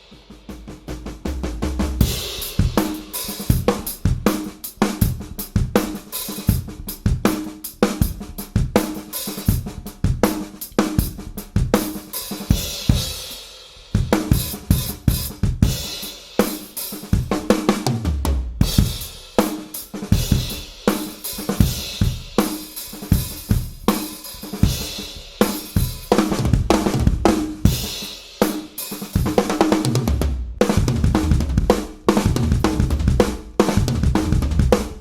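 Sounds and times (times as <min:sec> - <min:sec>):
drum kit groove: 0:00.0 - 0:35.0.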